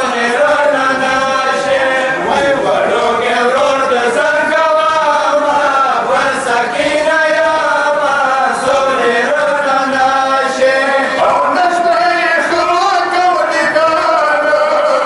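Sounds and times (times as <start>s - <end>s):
men chanting into a microphone: 0.0s - 15.0s.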